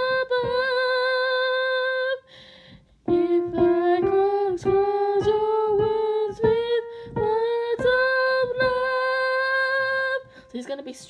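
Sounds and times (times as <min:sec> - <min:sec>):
woman singing unaccompanied: 0:00.0 - 0:02.4, 0:03.0 - 0:11.0.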